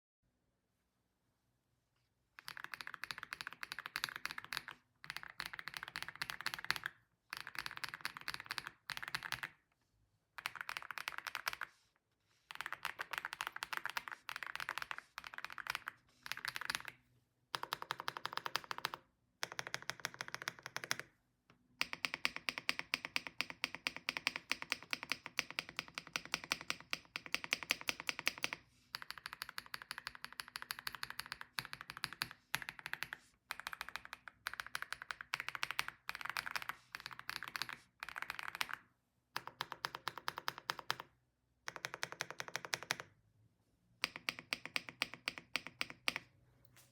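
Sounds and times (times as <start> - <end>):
mechanical keyboard typing: 2.4 - 9.6, 10.4 - 11.7, 12.5 - 21.1, 21.8 - 38.8, 39.4 - 43.1, 44.0 - 46.3.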